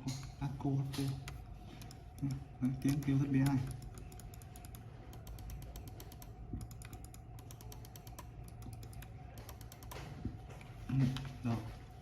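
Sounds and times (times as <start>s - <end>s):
computer mouse clicking: 0.0s - 11.3s.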